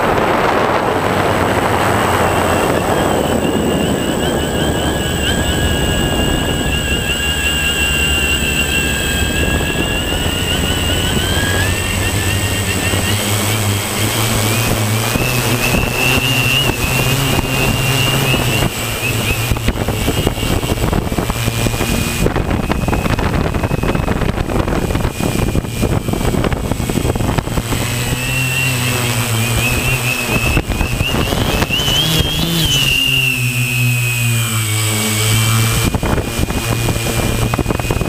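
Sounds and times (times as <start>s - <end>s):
drone propellers whirring: 0.0s - 38.0s
wind buffeting microphone: 0.0s - 38.0s.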